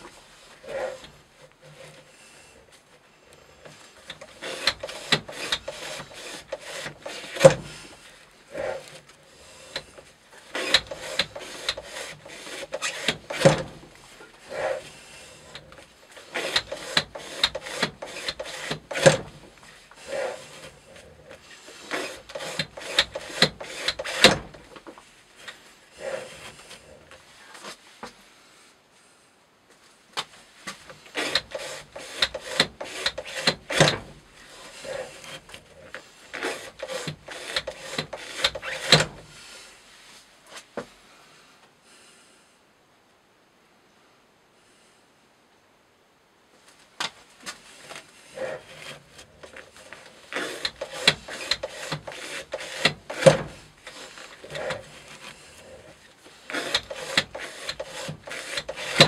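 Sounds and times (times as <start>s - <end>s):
knife sawing through rope: 0.0s - 27.8s, 30.7s - 39.8s, 47.6s - 59.0s.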